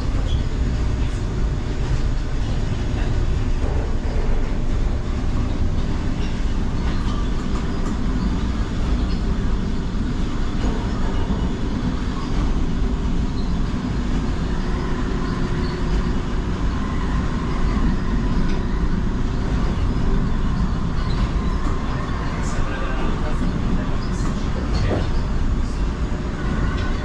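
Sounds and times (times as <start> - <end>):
monorail rumbling: 0.0 - 27.0.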